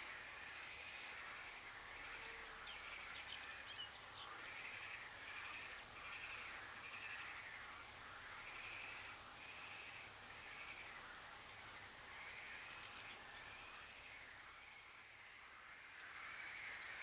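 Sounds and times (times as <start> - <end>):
distant birds calling: 0.0 - 17.0.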